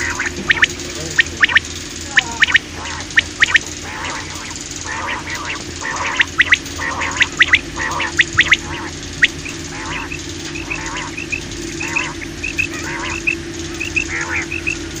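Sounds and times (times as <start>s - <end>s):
quail calling: 0.0s - 14.8s
steady low hum: 0.0s - 15.0s.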